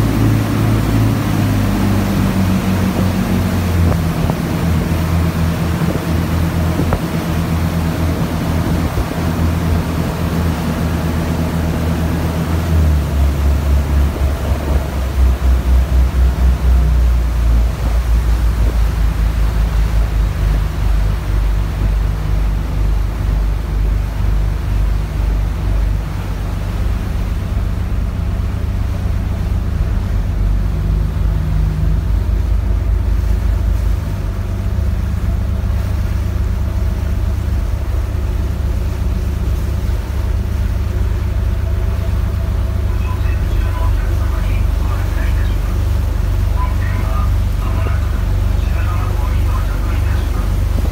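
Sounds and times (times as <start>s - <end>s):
ferry engine droning: 0.0s - 50.9s.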